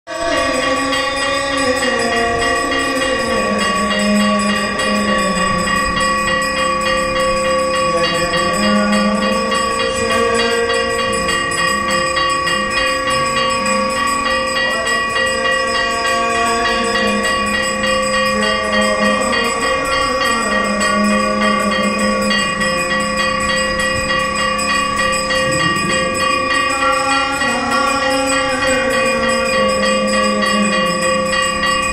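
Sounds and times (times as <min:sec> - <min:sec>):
temple bells ringing rapidly: 0:00.1 - 0:31.9
lower wavering tone: 0:01.6 - 0:31.9.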